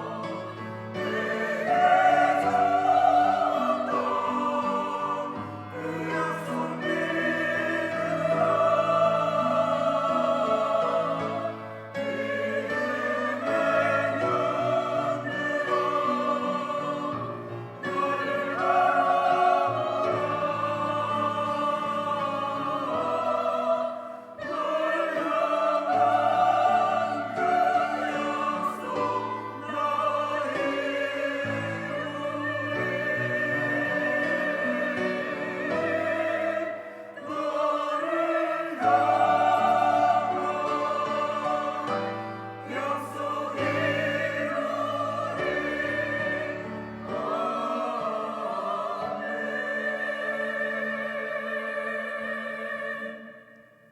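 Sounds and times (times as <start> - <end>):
church choir singing: 0.0 - 53.9.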